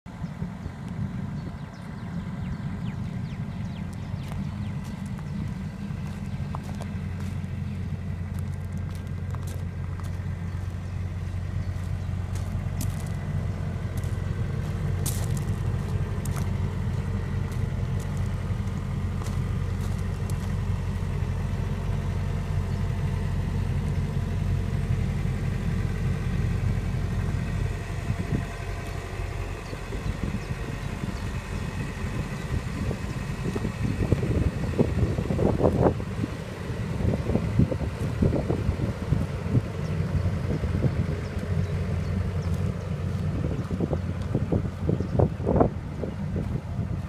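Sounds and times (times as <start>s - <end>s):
excavator diesel engine running: 0.1s - 47.0s.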